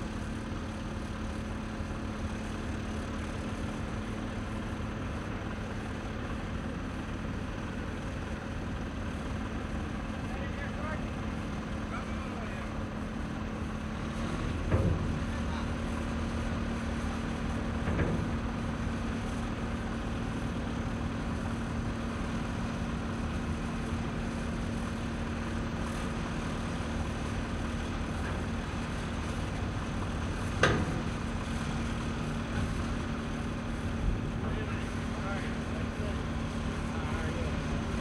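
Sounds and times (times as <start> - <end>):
crane engine humming: 0.0 - 38.0.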